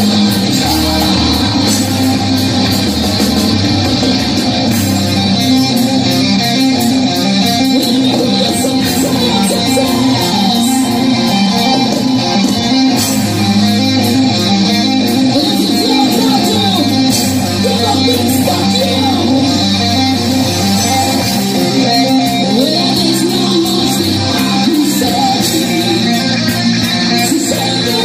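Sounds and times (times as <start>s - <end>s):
electric guitar: 0.0s - 28.0s
live metal band playing loudly: 0.0s - 28.0s.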